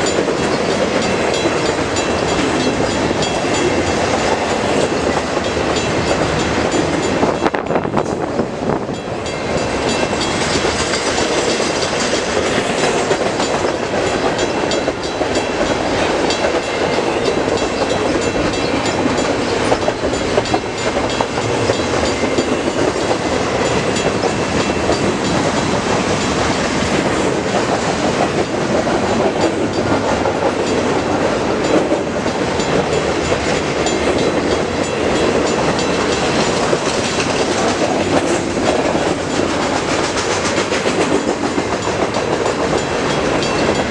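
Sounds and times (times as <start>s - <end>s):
train wheels on rails: 0.0s - 43.9s
wheels clicking over rail joints: 0.0s - 43.9s.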